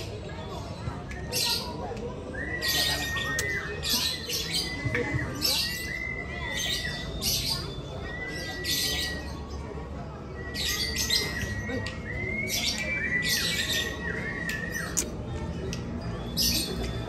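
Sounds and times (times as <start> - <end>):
lovebirds chattering: 0.0 - 17.0.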